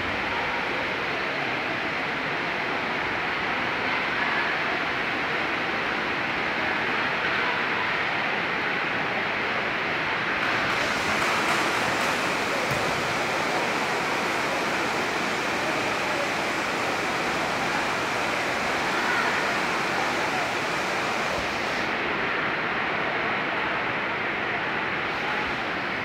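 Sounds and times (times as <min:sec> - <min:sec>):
heavy rain on a roof: 0:00.0 - 0:26.0.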